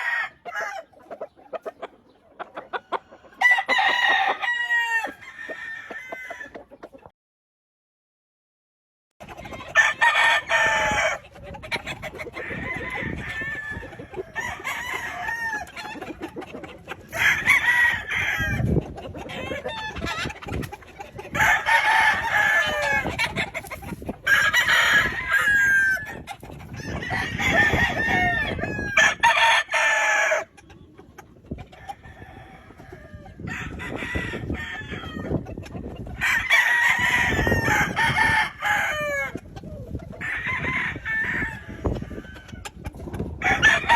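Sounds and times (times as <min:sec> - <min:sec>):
roosters crowing: 0:00.0 - 0:06.8, 0:09.3 - 0:30.6, 0:31.6 - 0:43.9
hens clucking: 0:00.0 - 0:07.1, 0:09.2 - 0:43.9.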